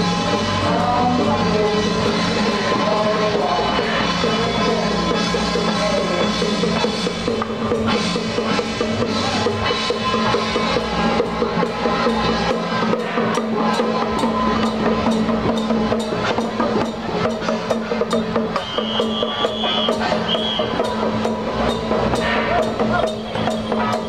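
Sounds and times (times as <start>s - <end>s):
drums and percussion: 0.0s - 24.0s.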